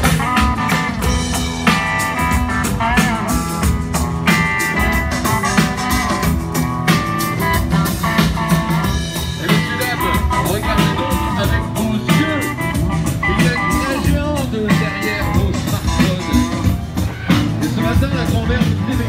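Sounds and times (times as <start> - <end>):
loud band music with drums: 0.0 - 19.0.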